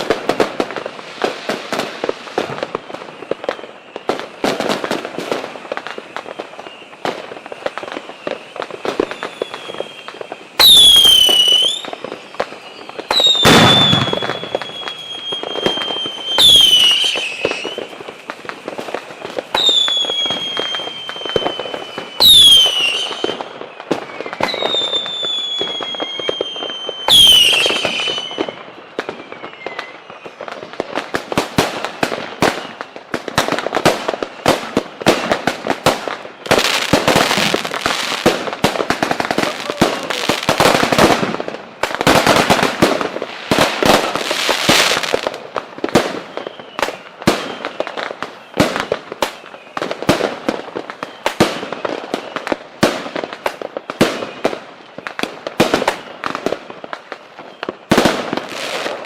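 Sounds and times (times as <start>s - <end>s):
firecracker pops crackling: 0.0s - 59.0s
firework bangs: 0.0s - 59.0s
whistling fireworks: 0.0s - 59.0s.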